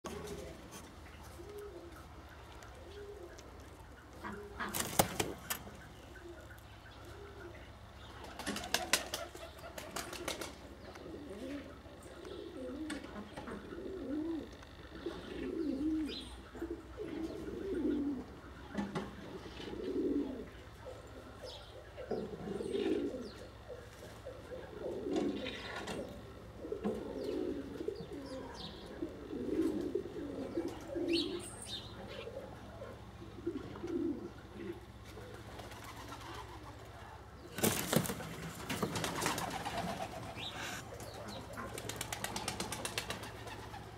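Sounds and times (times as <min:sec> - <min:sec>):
pigeons cooing: 0:00.1 - 0:43.9.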